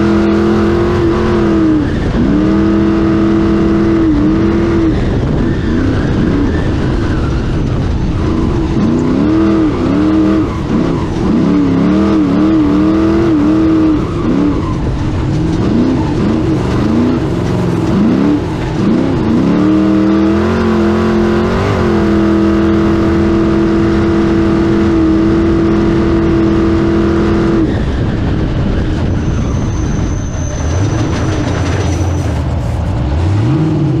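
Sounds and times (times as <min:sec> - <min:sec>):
race car engine revving: 0:00.0 - 0:34.0.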